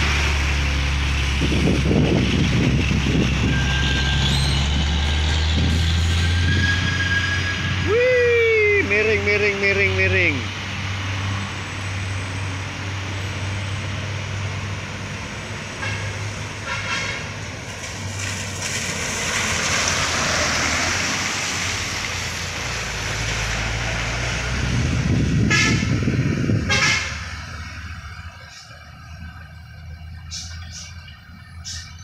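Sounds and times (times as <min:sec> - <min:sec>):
diesel trucks passing: 0:00.0 - 0:32.0
heavy engine rumble: 0:00.0 - 0:32.0.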